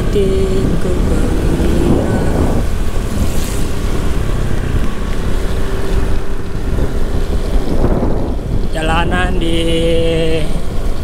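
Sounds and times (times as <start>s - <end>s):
motorcycle engine: 0.0s - 11.0s
tyres on wet road: 0.0s - 11.0s
wind rushing over microphone: 0.0s - 11.0s.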